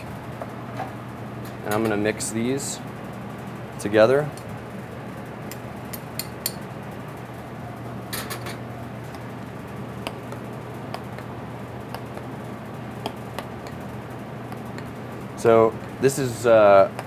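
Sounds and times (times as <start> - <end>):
kitchen ventilation hum: 0.0 - 17.0.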